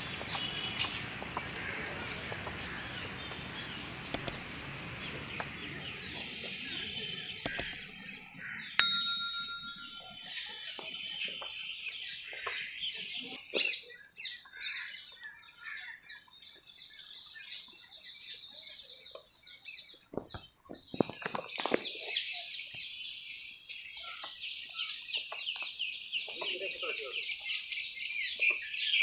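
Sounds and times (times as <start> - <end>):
birds chirping and calling: 0.0 - 29.0.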